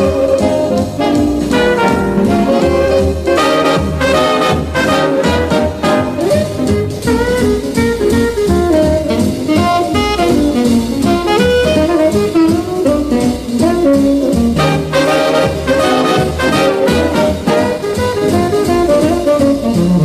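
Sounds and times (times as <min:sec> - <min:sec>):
swing jazz horn melody: 0:00.0 - 0:20.0.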